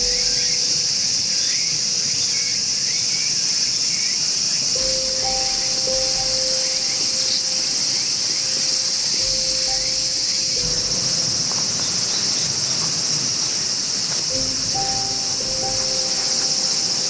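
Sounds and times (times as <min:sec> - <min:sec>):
shrill insect chorus: 0:00.0 - 0:17.0.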